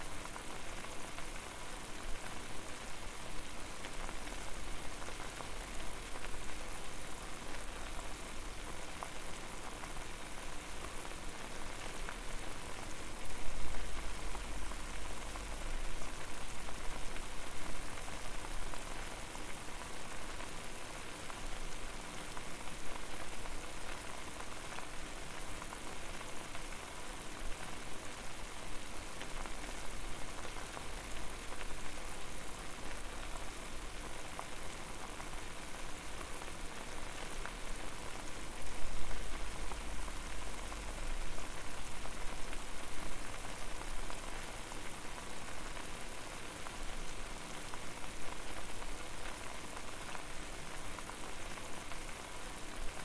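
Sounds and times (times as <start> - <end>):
water boiling and bubbling: 0.1 - 53.0.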